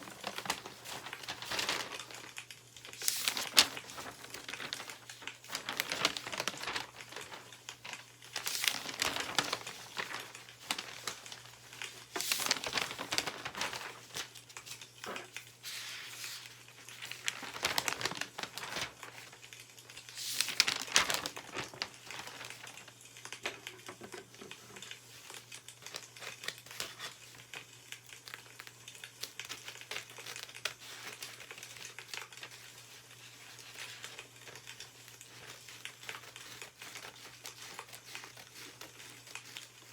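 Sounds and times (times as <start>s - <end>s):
newspaper pages rustling: 0.0s - 39.9s.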